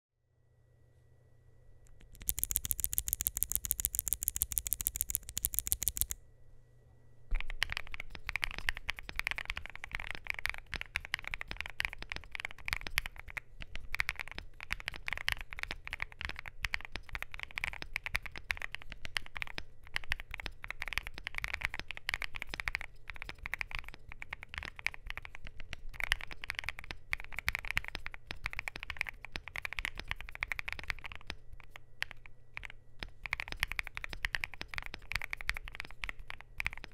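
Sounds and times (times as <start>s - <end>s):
mechanical keyboard typing: 1.9s - 6.2s, 7.3s - 36.9s
sharp evenly spaced clicks: 1.9s - 6.2s, 7.3s - 36.9s.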